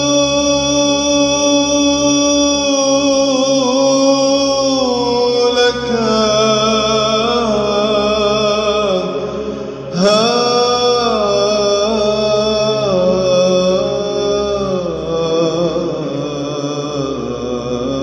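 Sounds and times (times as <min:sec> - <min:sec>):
solo voice chanting melisma: 0:00.0 - 0:18.0
steady low drone: 0:00.0 - 0:18.0.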